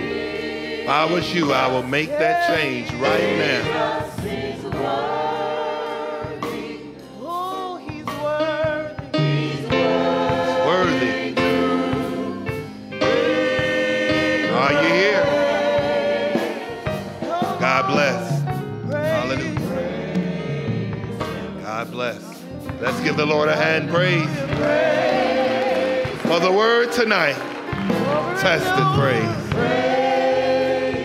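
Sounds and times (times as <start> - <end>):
gospel singing voices: 0.0 - 31.0
sustained instrumental accompaniment: 0.0 - 31.0.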